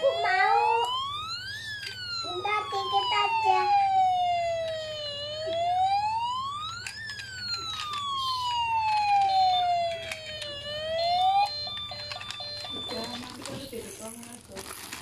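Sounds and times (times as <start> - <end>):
toy siren wailing: 0.0 - 14.3.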